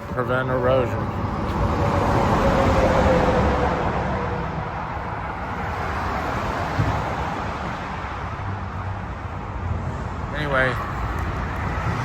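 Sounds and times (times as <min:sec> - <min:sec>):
tyre noise of passing traffic: 0:00.0 - 0:12.0
vehicle whine passing: 0:00.2 - 0:12.0.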